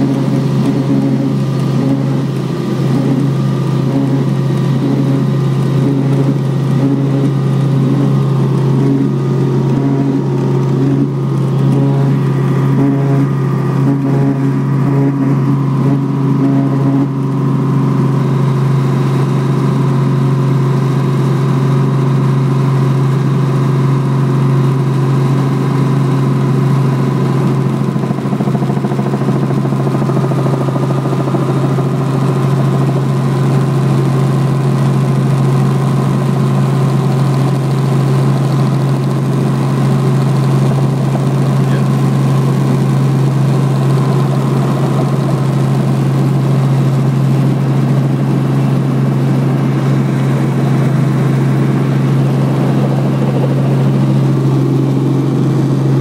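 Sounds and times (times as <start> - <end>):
helicopter drone from inside cabin: 0.0 - 56.0.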